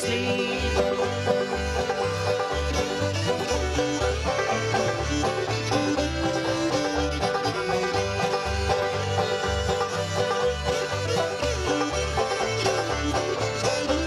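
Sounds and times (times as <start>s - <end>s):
banjo: 0.0s - 14.0s
bass notes: 0.0s - 14.0s
fiddle: 0.0s - 14.0s
guitar: 0.0s - 14.0s.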